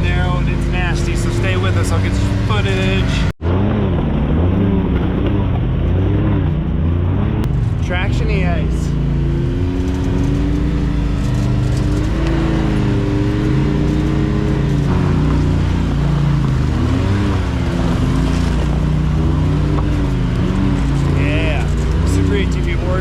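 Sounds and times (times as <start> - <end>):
engine revving under load: 0.0 - 23.0.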